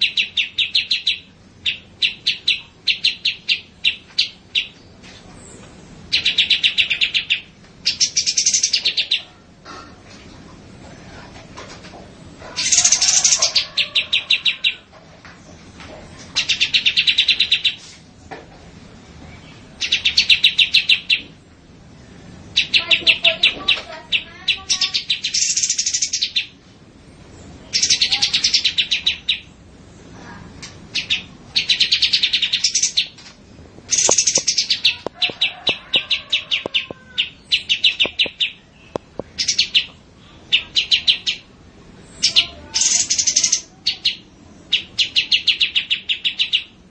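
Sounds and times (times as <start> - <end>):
songbirds trilling: 0.0 - 10.8, 12.0 - 18.3, 18.9 - 46.9.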